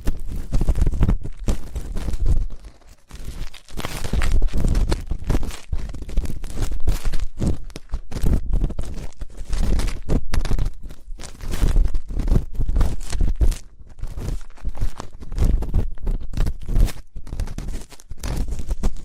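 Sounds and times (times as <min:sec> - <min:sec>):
ear pick scratching in ear: 0:00.0 - 0:19.0.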